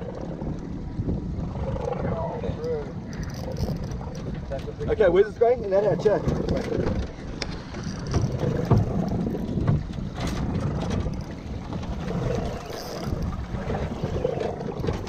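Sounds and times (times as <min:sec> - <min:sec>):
boat engine low rumble: 0:00.0 - 0:15.0
water noise: 0:00.0 - 0:15.0
wind buffeting microphone: 0:00.0 - 0:15.0.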